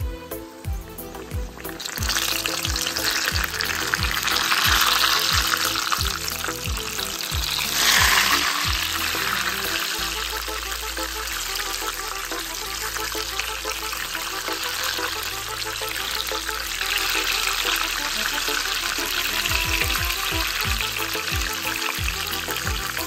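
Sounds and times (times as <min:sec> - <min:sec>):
background music with bass beat: 0:00.0 - 0:23.0
food sizzling in hot oil: 0:00.9 - 0:23.0.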